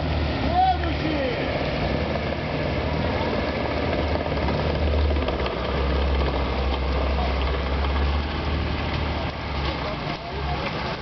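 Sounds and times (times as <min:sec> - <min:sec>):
motorboat engine running: 0:01.4 - 0:11.0.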